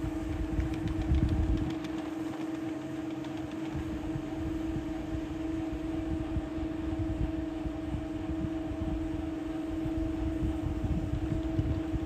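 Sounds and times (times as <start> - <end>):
wind rumbling on microphone: 0.0 - 2.0, 3.4 - 12.0
steady mechanical hum: 0.0 - 12.0.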